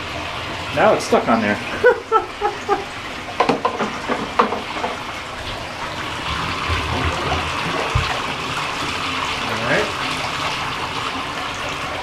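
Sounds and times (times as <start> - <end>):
faucet water running into tub: 0.0 - 12.0.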